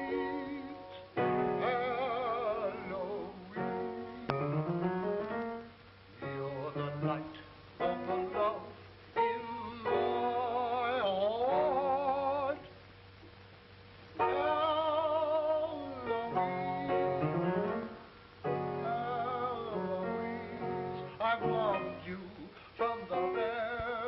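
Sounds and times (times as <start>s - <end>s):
slow sentimental piano song: 0.0s - 12.7s, 14.2s - 24.0s.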